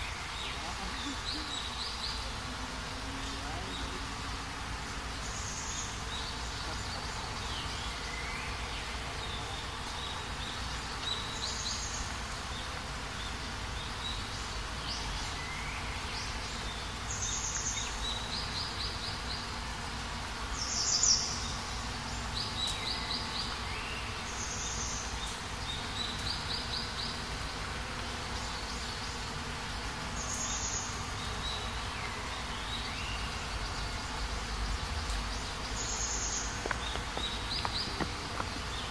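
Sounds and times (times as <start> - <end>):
birds chirping and trilling: 0.0 - 38.9
insect buzz: 0.0 - 38.9.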